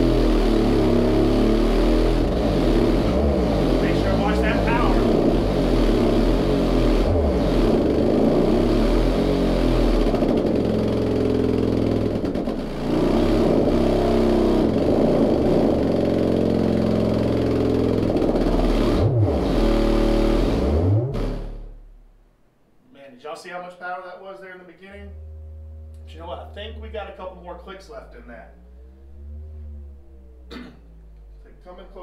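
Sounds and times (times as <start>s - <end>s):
subwoofer bass frequency sweep: 0.0s - 22.3s, 24.8s - 32.0s.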